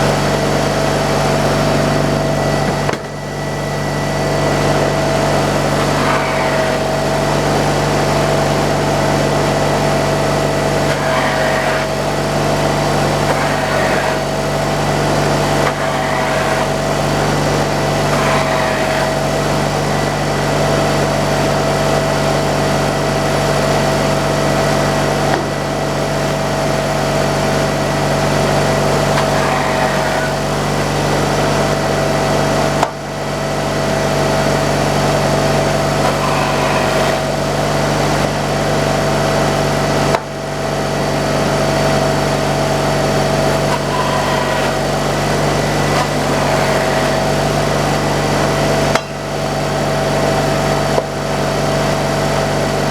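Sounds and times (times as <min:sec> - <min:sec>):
engine running steadily: 0:00.0 - 0:52.9
steady whine: 0:00.0 - 0:52.9.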